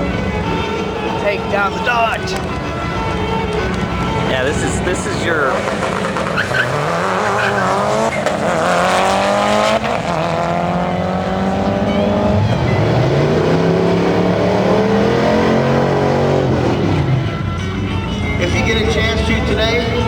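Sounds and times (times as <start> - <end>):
truck engine at full throttle: 0.0 - 20.0.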